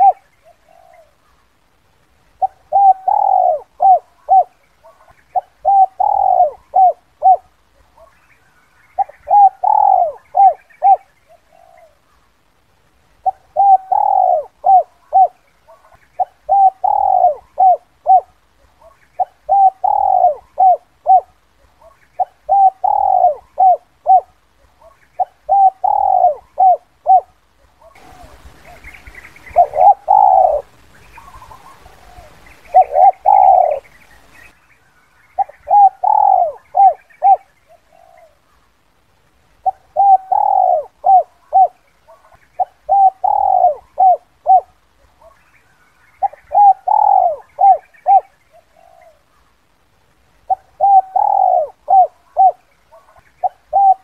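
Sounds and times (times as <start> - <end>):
dove cooing: 0.0 - 1.3, 2.3 - 12.2, 13.2 - 34.5, 35.3 - 38.6, 39.6 - 45.5, 46.2 - 49.5, 50.4 - 54.0
faint background hiss: 0.0 - 54.0.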